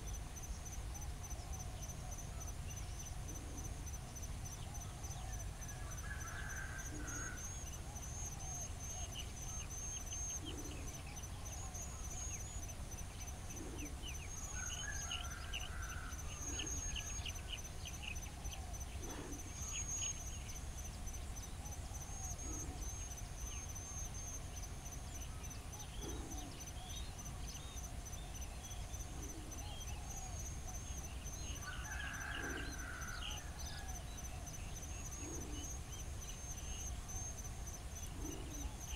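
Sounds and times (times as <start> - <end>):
insects chirping in a trill: 0.0 - 38.9.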